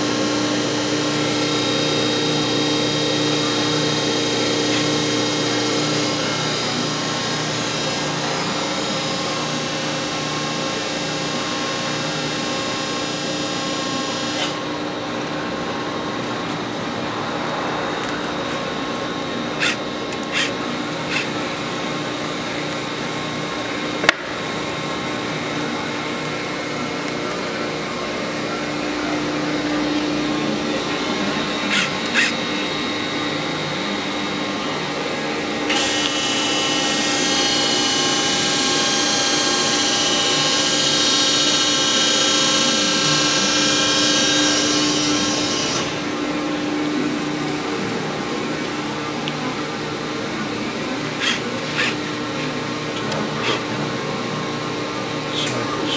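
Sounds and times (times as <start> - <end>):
high hissing whine: 0.0 - 55.9
hydraulic press humming: 0.0 - 55.9.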